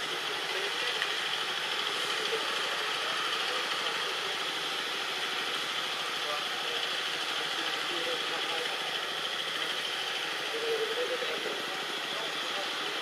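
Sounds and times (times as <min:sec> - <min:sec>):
constant high drone: 0:00.0 - 0:13.0.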